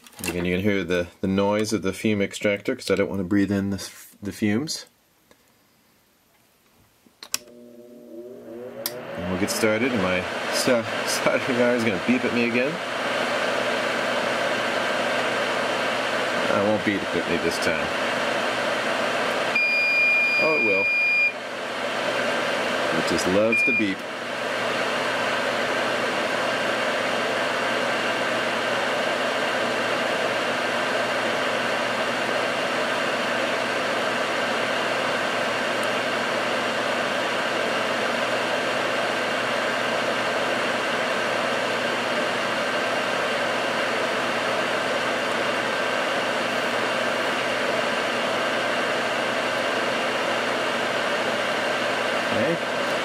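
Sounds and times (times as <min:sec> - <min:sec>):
extractor fan running: 0:07.2 - 0:53.0.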